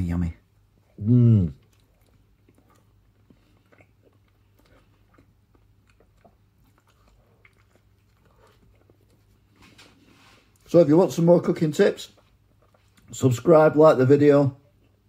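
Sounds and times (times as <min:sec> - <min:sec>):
man chewing food: 0:00.5 - 0:13.4, 0:14.6 - 0:15.0.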